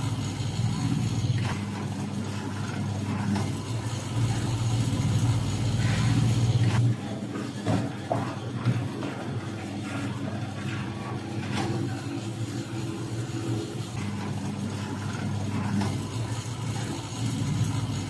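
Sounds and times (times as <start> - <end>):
motor droning: 0.0 - 18.0.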